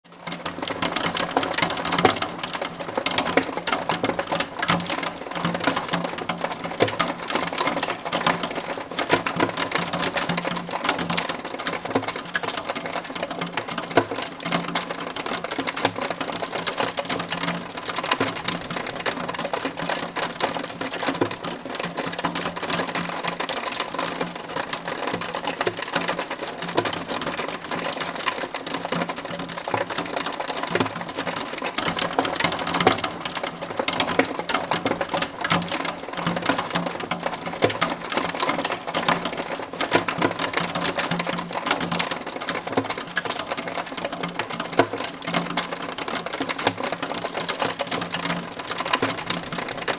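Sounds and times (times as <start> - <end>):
hail and rain on window: 0.1 - 49.9.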